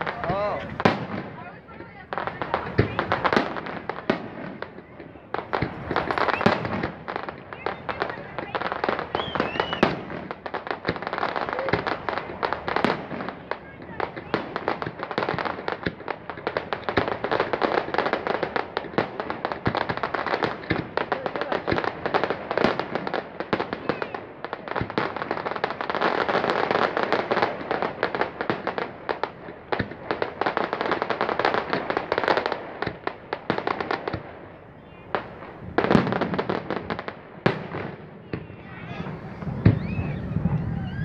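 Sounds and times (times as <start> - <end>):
fireworks bangs: 0.0 - 41.0
fireworks crackling and popping: 0.0 - 41.0.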